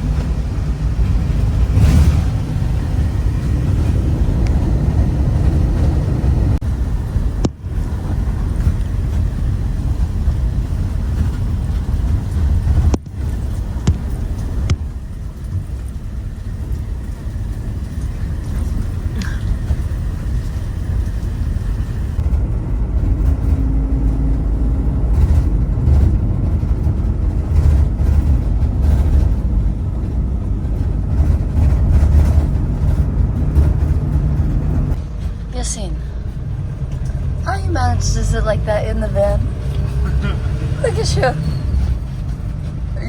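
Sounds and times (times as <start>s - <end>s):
minibus engine and tyres rumbling: 0.0s - 43.0s
knocks and rattles: 7.4s - 43.0s.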